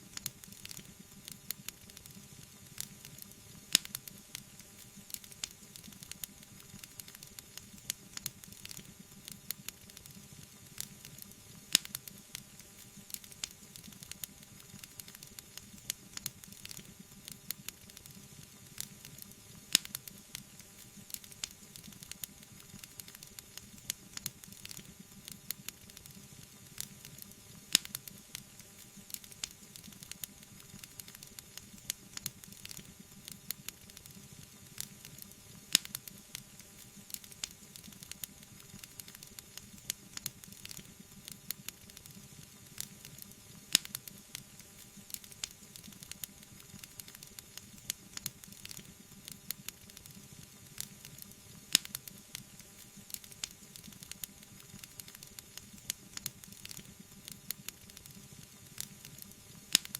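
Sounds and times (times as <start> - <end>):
low hiss: 0.0 - 59.9
wood fire crackling: 0.0 - 59.9.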